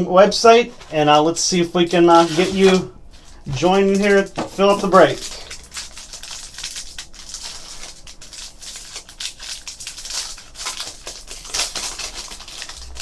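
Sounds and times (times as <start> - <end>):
packaging crinkling and rustling: 0.5 - 13.0.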